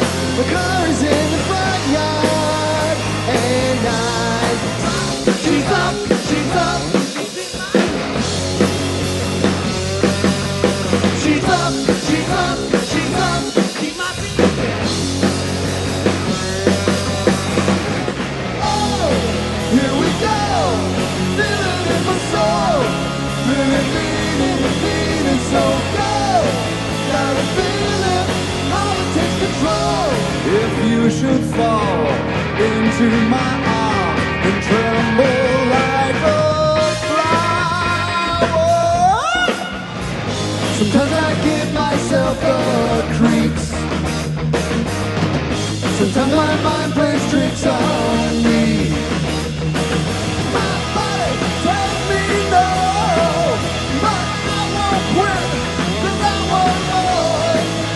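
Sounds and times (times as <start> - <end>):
man singing: 0.0 - 7.9, 9.5 - 14.6, 16.0 - 17.9, 18.6 - 40.0, 40.6 - 43.9, 45.9 - 49.2, 50.5 - 57.9
rock band playing: 0.0 - 57.9.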